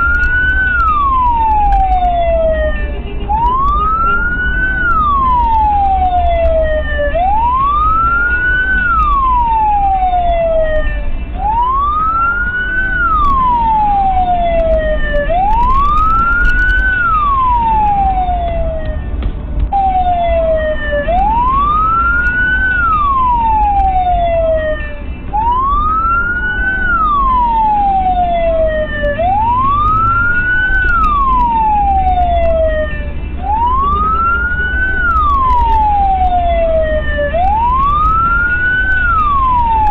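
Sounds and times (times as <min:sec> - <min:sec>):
fainter siren sweeps: 0:00.0 - 0:19.1, 0:19.7 - 0:39.9
emergency vehicle siren wailing: 0:00.0 - 0:39.9
low road rumble: 0:00.0 - 0:39.9.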